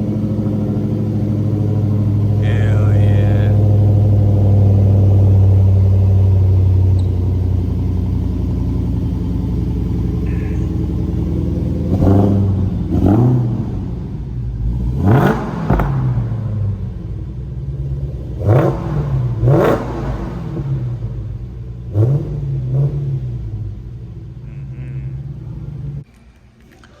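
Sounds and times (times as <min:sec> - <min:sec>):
car engine idling and revving: 0:00.0 - 0:26.1.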